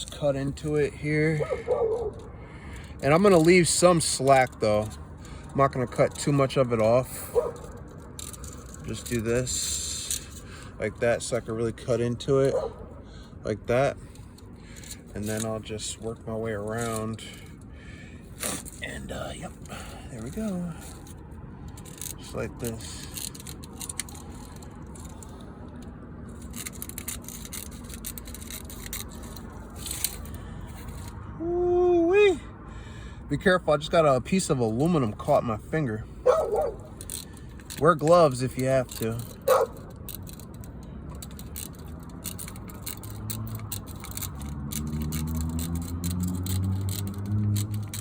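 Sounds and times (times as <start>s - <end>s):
low engine hum: 0.0s - 48.0s.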